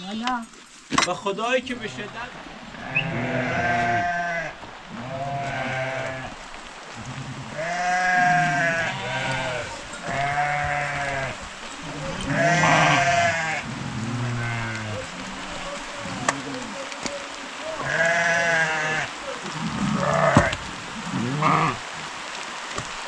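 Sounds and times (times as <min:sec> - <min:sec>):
sheep and lambs bleating: 0:02.7 - 0:21.8.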